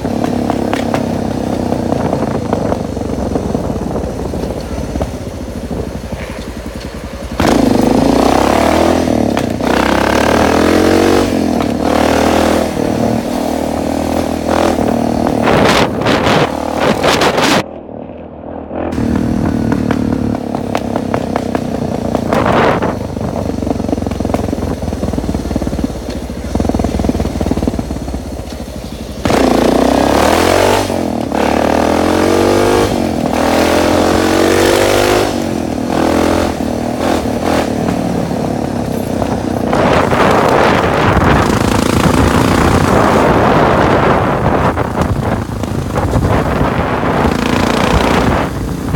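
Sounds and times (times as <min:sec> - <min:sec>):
dirt bike engine revving: 0:00.0 - 0:17.7, 0:18.5 - 0:48.9.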